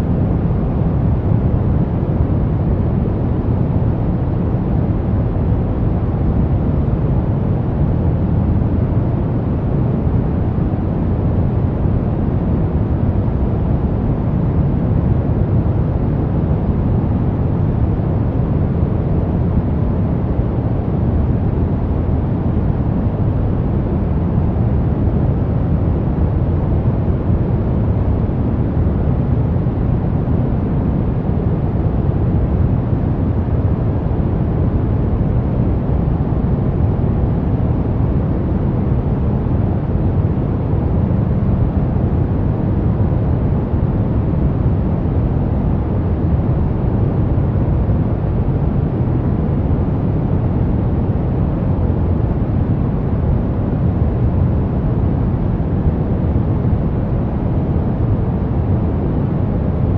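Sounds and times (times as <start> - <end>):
brown noise: 0.0 - 59.9.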